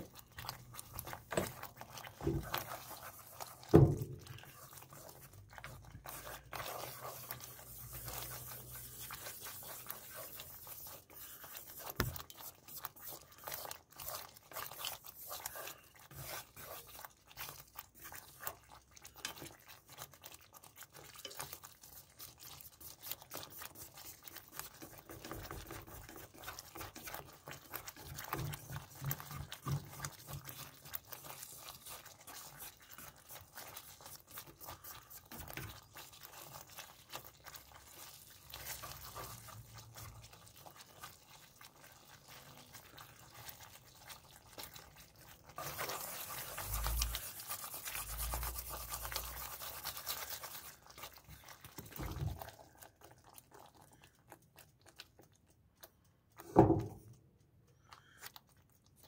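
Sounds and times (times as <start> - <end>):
sauce bubbling in frying pan: 0.0 - 59.0.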